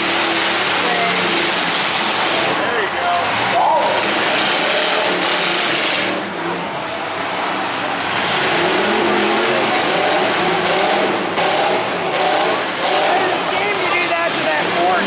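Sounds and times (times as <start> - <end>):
car engines revving: 0.0 - 15.0
steady loud noise: 0.0 - 15.0.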